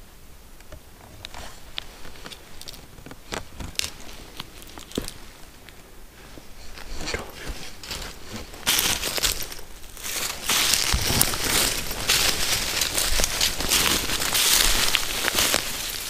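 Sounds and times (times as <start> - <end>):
footsteps crunching through dry leaves: 1.5 - 16.0.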